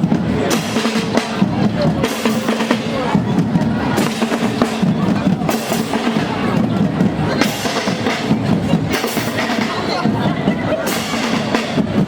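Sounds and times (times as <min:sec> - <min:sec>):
bass and snare drums: 0:00.0 - 0:12.0
marching band playing: 0:00.0 - 0:12.0.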